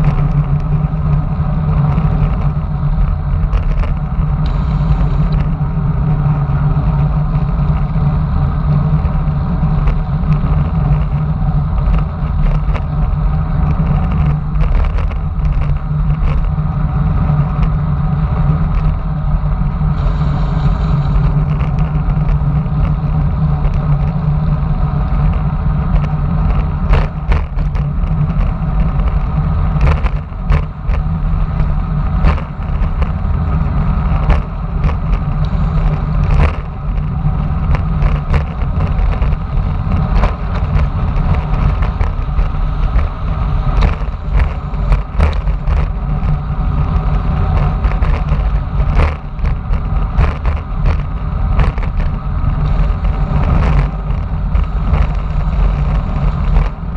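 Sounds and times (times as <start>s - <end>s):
bicycle clicks and rattles: 0.0s - 56.9s
tyre and road noise: 0.0s - 56.9s
wind buffeting microphone: 0.0s - 56.9s.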